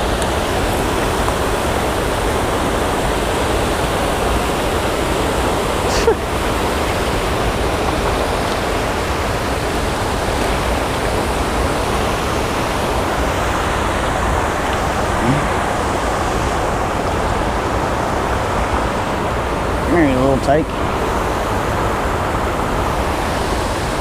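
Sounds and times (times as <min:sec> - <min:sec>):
water pouring over spillway: 0:00.0 - 0:24.0.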